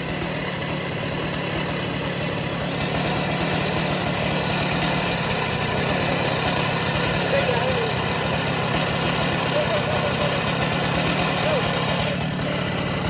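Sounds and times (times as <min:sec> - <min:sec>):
chainsaw idling: 0:00.0 - 0:13.0.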